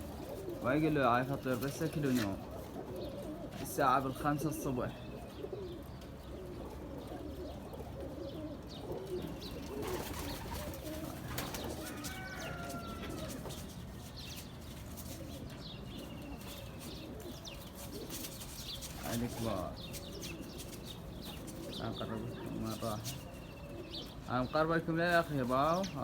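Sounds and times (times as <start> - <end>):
pigeons cooing: 0.0 - 26.0
small birds chirping: 0.0 - 26.0.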